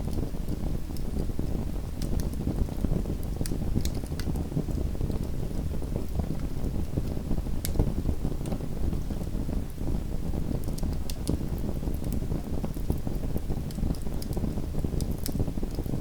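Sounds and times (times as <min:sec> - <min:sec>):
low rumble of burning: 0:00.0 - 0:16.0
wood fire crackling and popping: 0:00.0 - 0:16.0.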